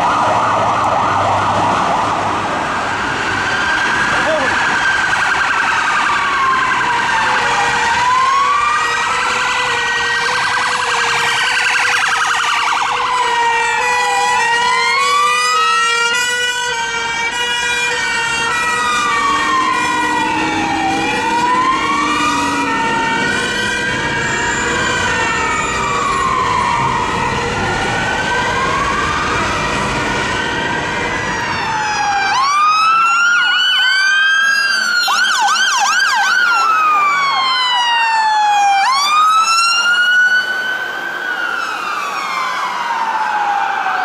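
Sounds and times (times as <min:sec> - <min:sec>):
wailing emergency siren: 0:00.0 - 0:44.0.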